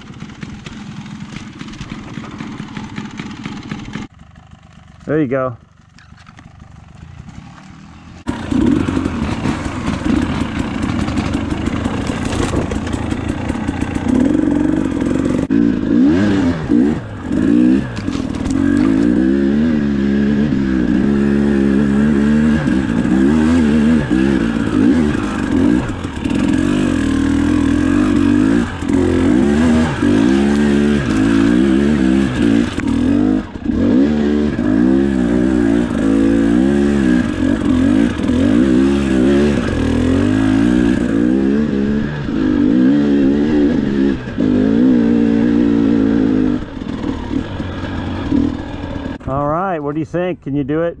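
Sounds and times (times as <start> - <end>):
dirt bike engine revving: 0.0 - 50.2.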